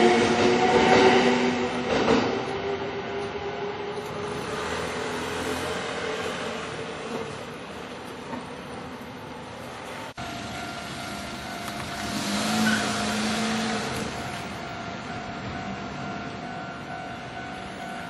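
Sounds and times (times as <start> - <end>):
train rumble and hiss: 0.0 - 18.0.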